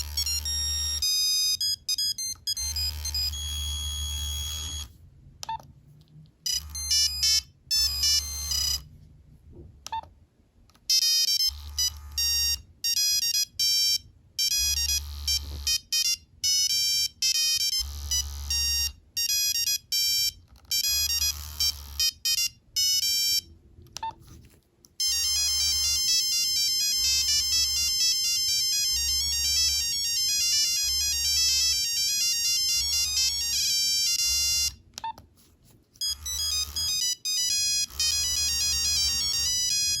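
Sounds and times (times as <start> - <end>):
monophonic ringtone melodies: 0.0 - 4.9, 6.4 - 8.9, 10.9 - 23.5, 25.0 - 34.8, 36.0 - 40.0.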